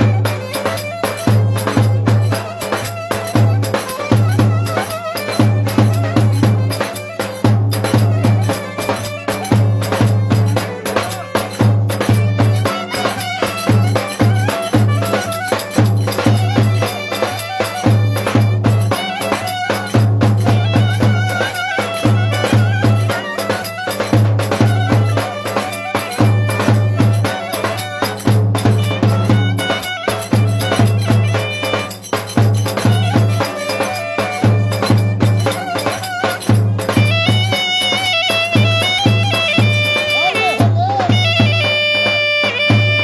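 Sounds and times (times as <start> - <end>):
folk dance music by a band: 0.0 - 43.0.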